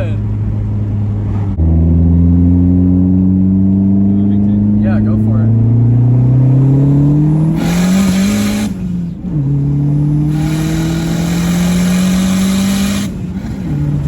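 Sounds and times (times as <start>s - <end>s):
turbocharged car engine accelerating: 0.0s - 14.0s.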